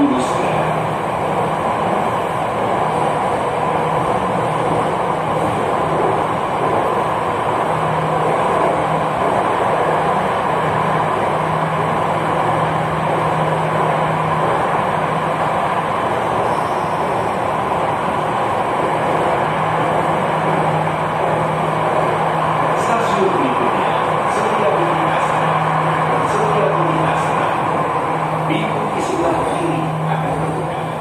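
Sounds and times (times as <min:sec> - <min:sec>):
train running noise: 0:00.0 - 0:31.0.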